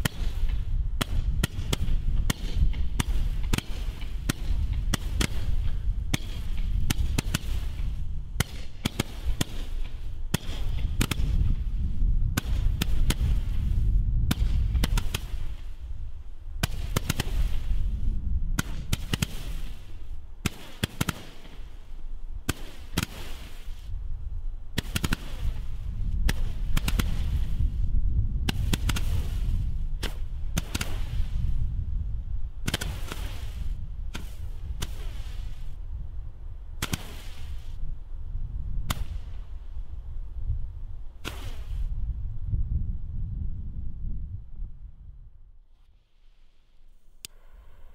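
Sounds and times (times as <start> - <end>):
steady low rumble: 0.0 - 20.4, 23.7 - 36.8, 37.8 - 45.8, 46.8 - 47.9.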